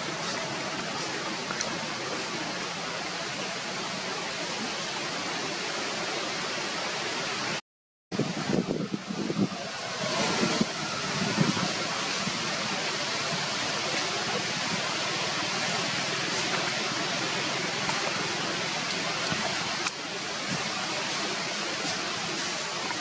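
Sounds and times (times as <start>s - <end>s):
outdoor background hiss: 0.0s - 7.6s, 8.2s - 23.0s.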